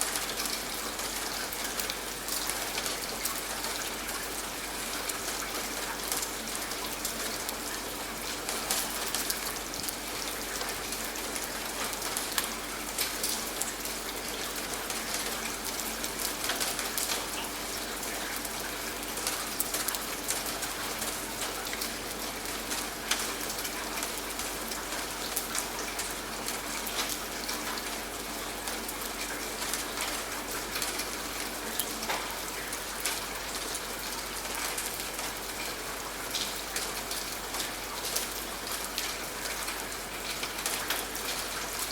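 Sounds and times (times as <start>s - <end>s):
rain drops pattering: 0.0s - 41.9s.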